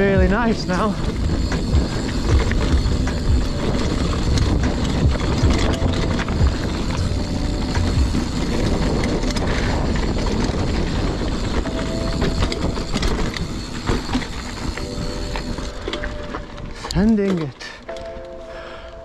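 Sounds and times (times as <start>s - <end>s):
bike tyres rumbling on dirt: 0.0s - 17.4s
bike clattering and rattling: 0.0s - 18.4s.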